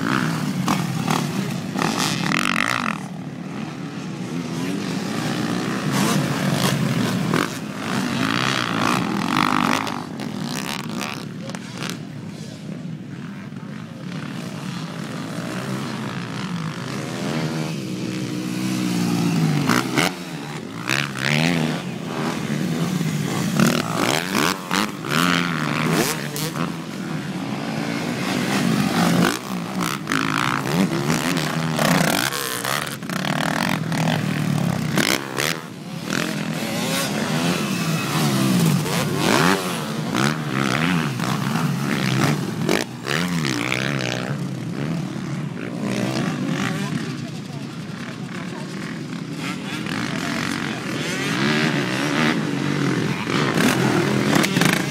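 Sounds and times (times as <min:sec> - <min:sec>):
motocross bikes revving: 0:00.0 - 0:54.9.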